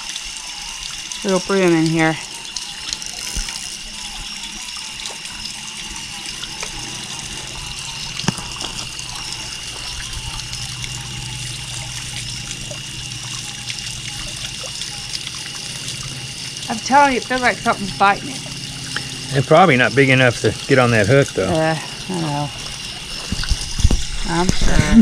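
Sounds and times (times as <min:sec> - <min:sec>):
water trickling into pool: 0:00.0 - 0:25.0.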